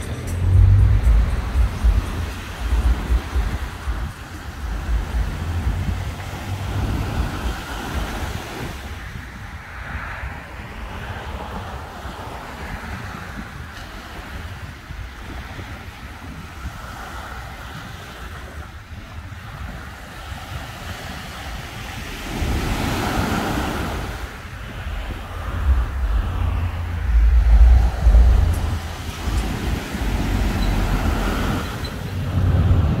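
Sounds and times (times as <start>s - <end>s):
wind rumbling on microphone: 0.0s - 33.0s
small waves breaking on a beach: 1.1s - 33.0s.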